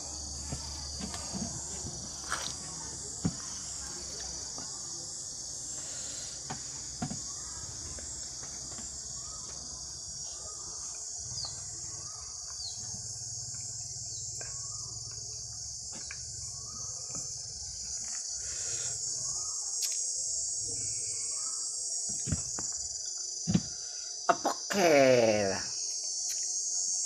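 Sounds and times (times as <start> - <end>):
insect chirring: 0.0 - 27.0.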